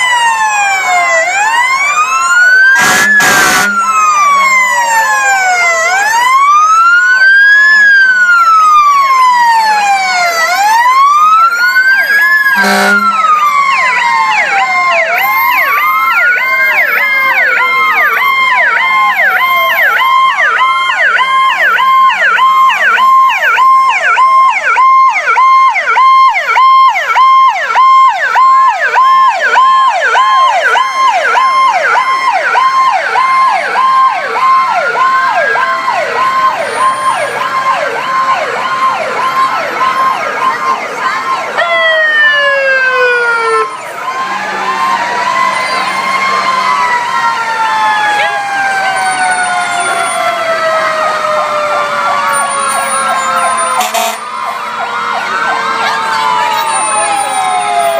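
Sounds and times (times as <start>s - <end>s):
siren yelp: 0.0s - 57.9s
sirens wailing: 0.0s - 57.9s.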